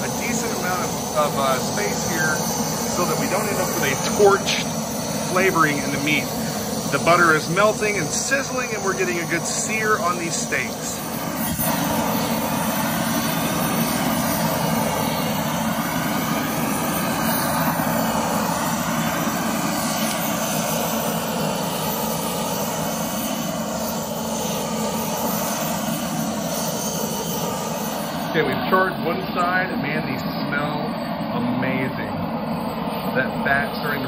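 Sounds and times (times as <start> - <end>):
propane torch flame rushing: 0.0 - 34.0.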